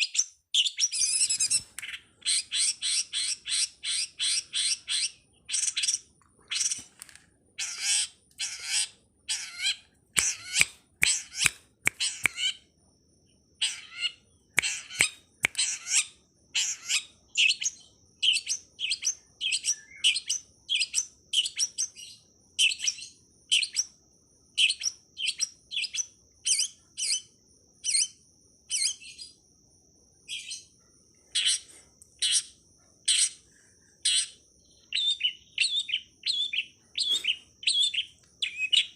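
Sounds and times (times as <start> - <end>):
bird harsh chirps: 0.0 - 6.9, 7.6 - 12.6, 13.6 - 29.4, 31.3 - 38.9.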